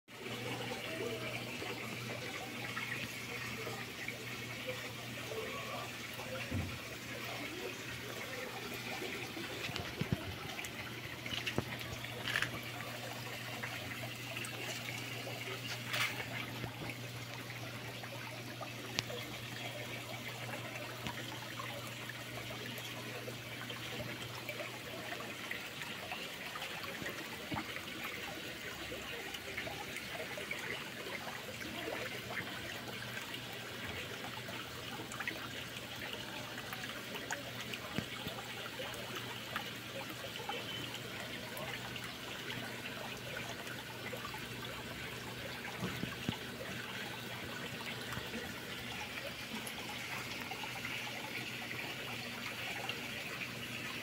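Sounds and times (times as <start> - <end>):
water trickling into pond: 0.1 - 54.0.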